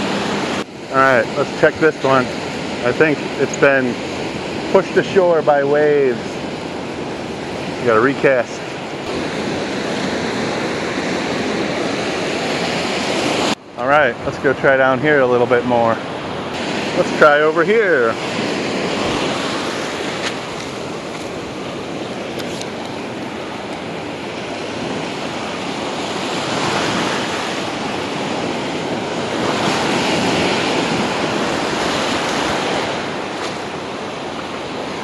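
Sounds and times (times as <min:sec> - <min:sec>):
ocean surf breaking on sand: 0:00.0 - 0:35.0.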